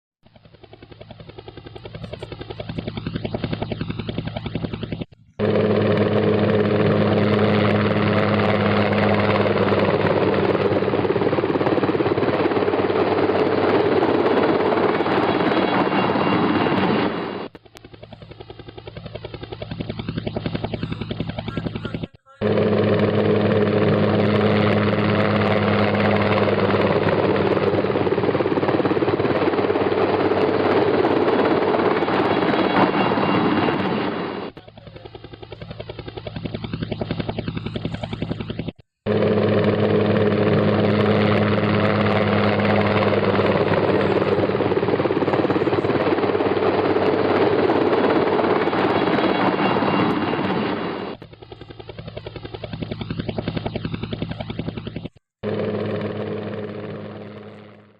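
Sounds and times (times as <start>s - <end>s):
helicopter engine and rotor: 0.2s - 57.9s.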